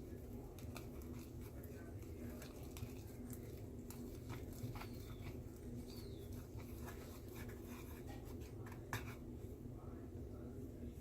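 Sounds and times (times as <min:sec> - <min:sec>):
slime stirred in a bowl: 0:00.0 - 0:09.5
low background hum: 0:00.0 - 0:11.0.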